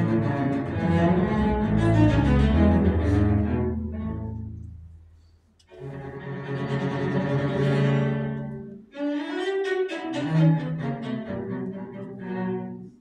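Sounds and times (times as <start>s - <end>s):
bowed cello and double bass: 0.0s - 13.0s.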